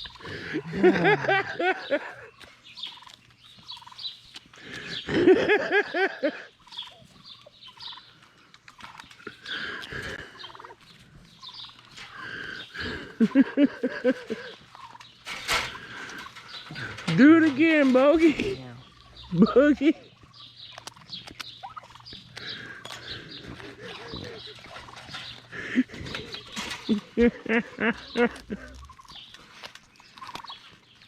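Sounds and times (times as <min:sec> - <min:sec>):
turkeys gobbling: 0:00.0 - 0:30.8.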